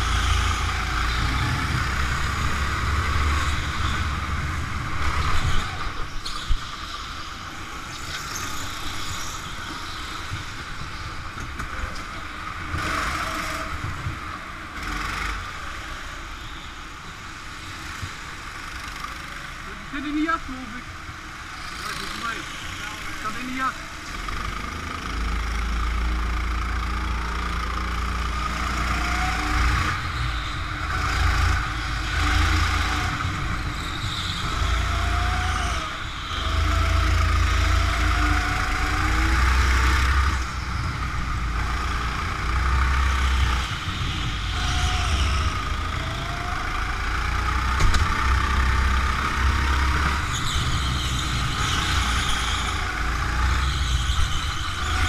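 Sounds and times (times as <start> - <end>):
go-kart motor revving: 0.0 - 16.6, 17.3 - 55.0.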